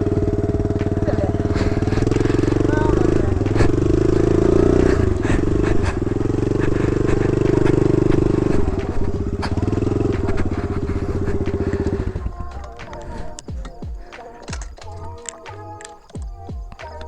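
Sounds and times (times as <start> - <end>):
tyre spinning in dirt: 0.0 - 15.2
dirt bike engine revving: 0.0 - 17.0.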